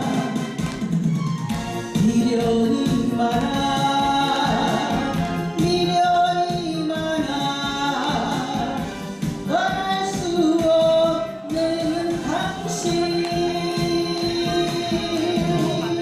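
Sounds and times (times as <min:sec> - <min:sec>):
backing music: 0:00.0 - 0:16.0
woman singing: 0:02.0 - 0:16.0.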